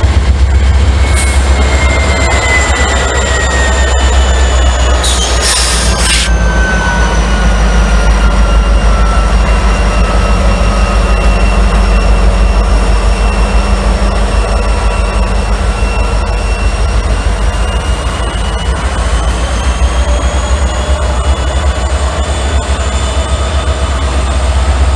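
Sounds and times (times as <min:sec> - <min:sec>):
high whine: 0:00.0 - 0:24.9
train rumbling past: 0:00.0 - 0:24.9.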